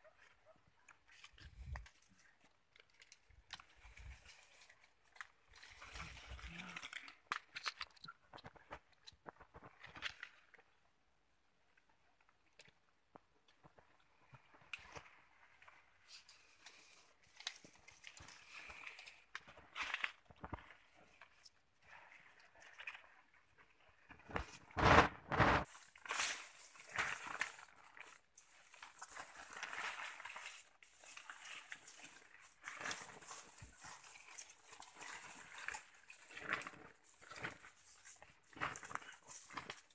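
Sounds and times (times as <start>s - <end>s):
leaves and branches rustling: 0.0s - 7.6s, 14.1s - 39.9s.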